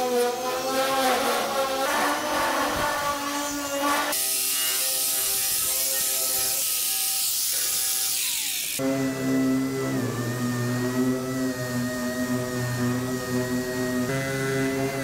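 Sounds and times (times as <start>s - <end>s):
sander whining on sheet metal: 0.0s - 15.0s.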